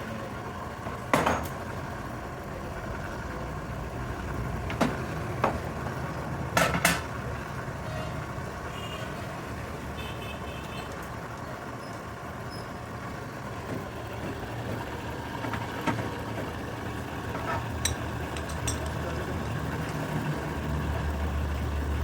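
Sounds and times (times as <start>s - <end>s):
low engine-like rumble: 1.6s - 22.0s.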